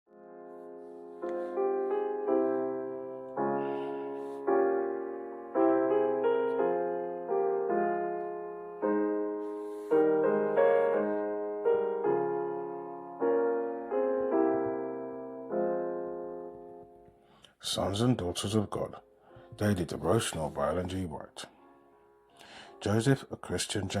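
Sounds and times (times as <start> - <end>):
piano playing slow chords: 0.1 - 23.2.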